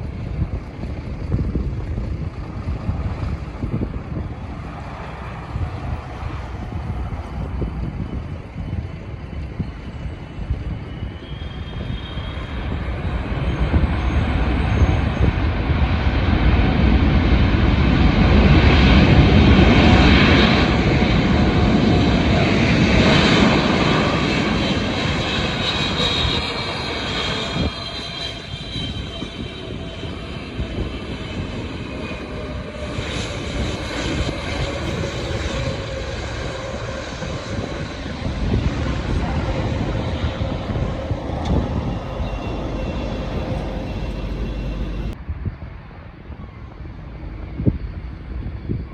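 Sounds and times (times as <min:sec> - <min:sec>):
jet airliner engines passing: 0:00.0 - 0:48.9.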